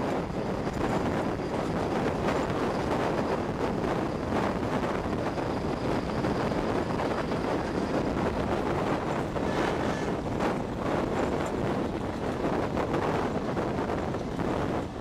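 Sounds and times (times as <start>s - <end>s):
train coach running on track: 0.0s - 15.0s
wind buffeting microphone: 0.0s - 15.0s.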